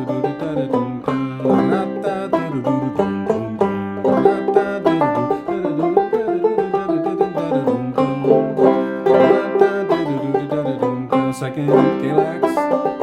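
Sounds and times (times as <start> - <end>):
banjo picking: 0.0 - 13.0.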